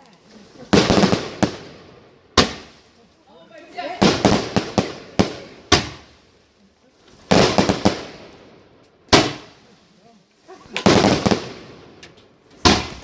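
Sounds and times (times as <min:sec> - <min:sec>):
fireworks bangs: 0:00.0 - 0:06.4, 0:07.1 - 0:09.9, 0:10.6 - 0:13.0.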